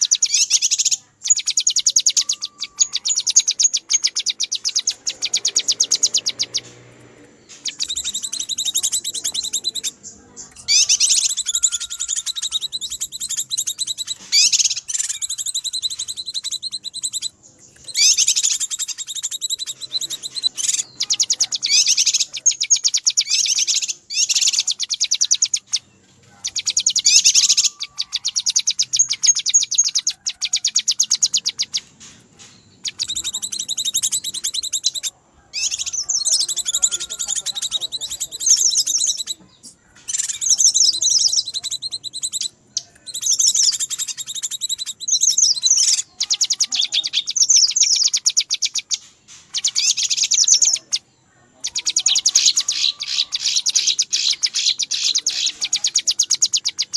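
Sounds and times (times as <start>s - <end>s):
bird chattering: 0.0s - 56.9s.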